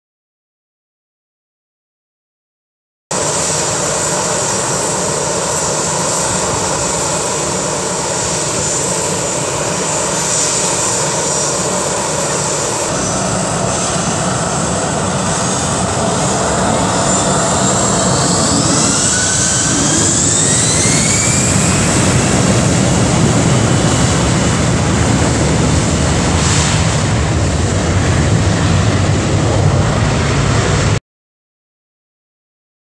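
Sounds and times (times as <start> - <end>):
jet takeoff roar: 3.1 - 31.0
jet engines whining: 3.2 - 31.0.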